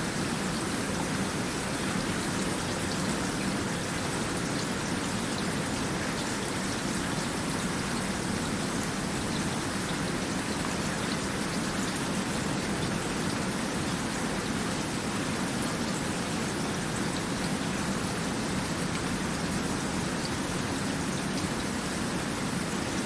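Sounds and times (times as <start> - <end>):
raindrops pattering on a surface: 0.0 - 23.0
steady rain falling: 0.0 - 23.0.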